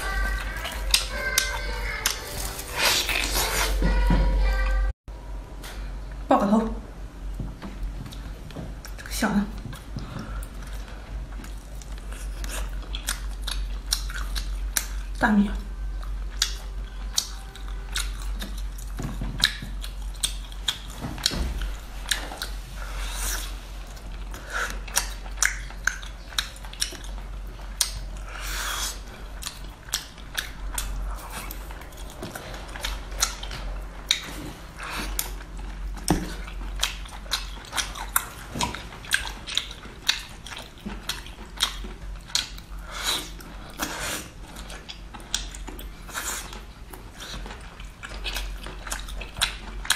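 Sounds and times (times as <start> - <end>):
wet chewing and sucking: 0.0 - 3.8, 8.0 - 15.2, 15.8 - 49.9.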